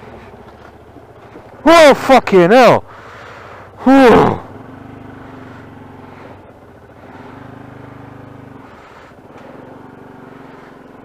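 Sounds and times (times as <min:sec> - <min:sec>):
motorbike engine running: 0:00.0 - 0:02.2, 0:02.9 - 0:11.0
road and wind noise: 0:00.0 - 0:11.0.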